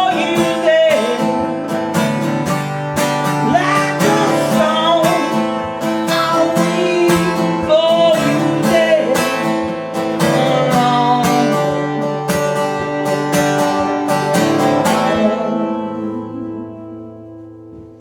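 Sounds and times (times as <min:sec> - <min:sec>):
guitar strumming: 0:00.0 - 0:18.0.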